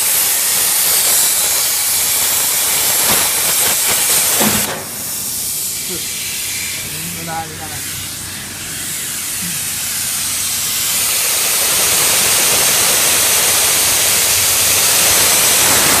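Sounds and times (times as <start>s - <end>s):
plasma torch hissing: 0.0s - 16.0s.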